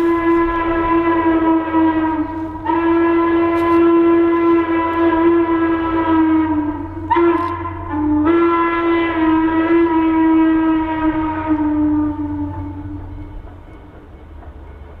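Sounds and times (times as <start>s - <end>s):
steam whistle blasts: 0.0s - 13.9s.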